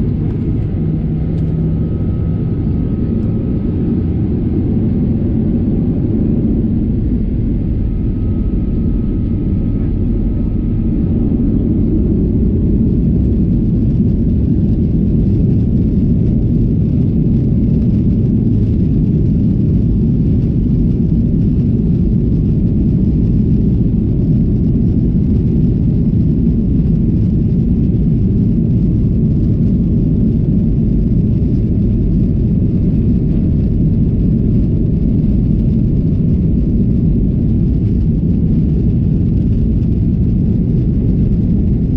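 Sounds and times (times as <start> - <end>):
airplane cabin rumble: 0.0 - 41.9.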